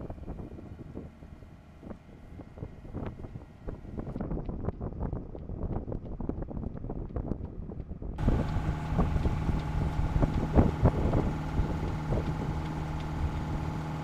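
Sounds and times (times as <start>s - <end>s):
wind on microphone: 0.0s - 13.8s
boat engine running: 0.0s - 14.0s.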